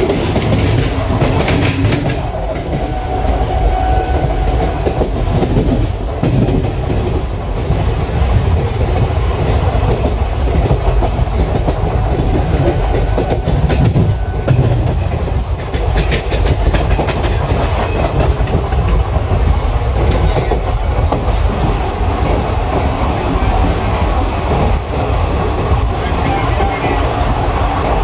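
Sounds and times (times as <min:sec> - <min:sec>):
train coach low rumble: 0:00.0 - 0:28.0.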